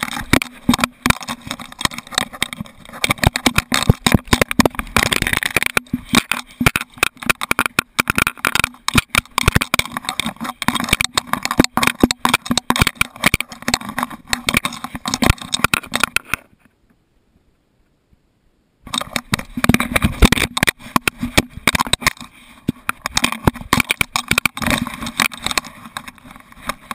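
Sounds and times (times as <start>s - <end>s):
camera knocking and rattling: 0.0s - 16.5s, 18.9s - 26.9s.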